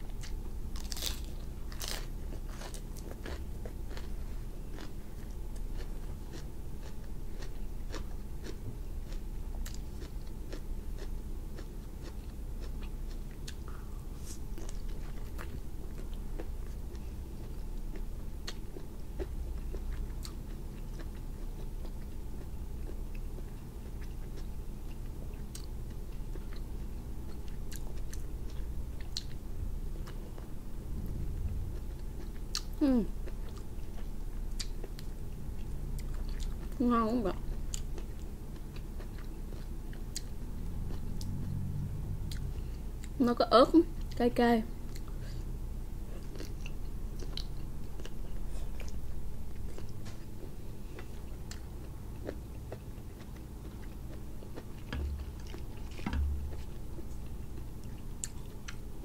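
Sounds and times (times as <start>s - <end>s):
chewing and crunching food: 0.0s - 43.2s, 43.9s - 59.0s
low steady hum: 0.0s - 59.0s.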